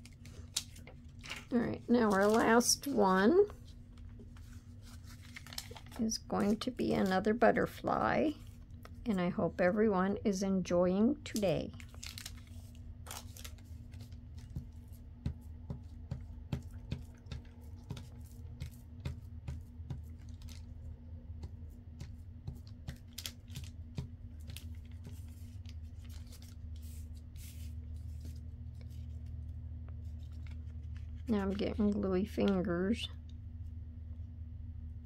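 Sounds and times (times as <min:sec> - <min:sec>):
paper rustling and crinkling: 0:00.0 - 0:09.1, 0:11.7 - 0:20.8, 0:21.4 - 0:32.0
steady low hum: 0:00.0 - 0:35.0.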